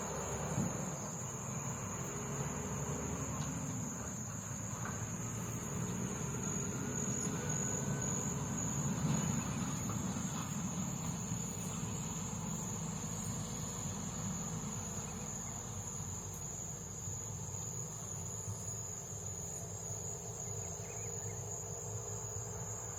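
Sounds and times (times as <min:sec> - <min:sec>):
crickets droning: 0:00.0 - 0:22.9.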